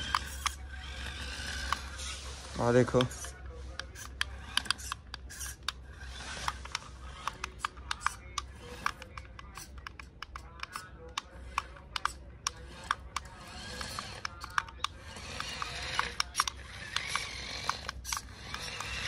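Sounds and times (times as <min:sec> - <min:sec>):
model tractor clicking over earth: 0:00.0 - 0:19.0.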